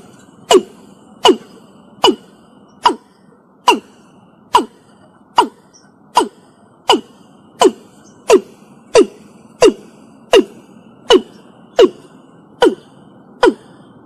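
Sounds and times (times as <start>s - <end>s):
bird calling short sharp notes: 0.0s - 13.9s.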